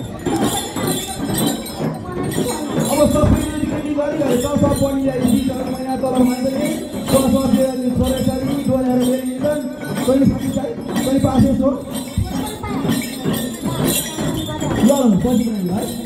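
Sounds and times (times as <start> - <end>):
bells jingling: 0.0 - 16.0
frame drums beating: 0.0 - 16.0.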